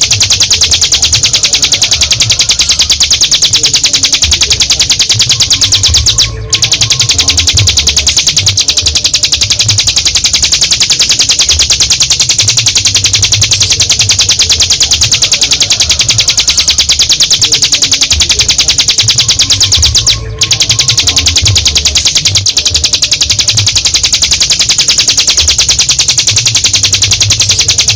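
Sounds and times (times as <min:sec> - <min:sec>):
bird trilling: 0:00.0 - 0:27.9.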